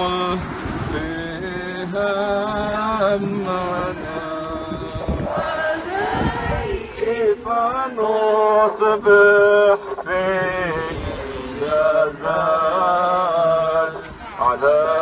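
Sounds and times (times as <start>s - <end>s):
voices singing a hymn: 0.0s - 15.0s.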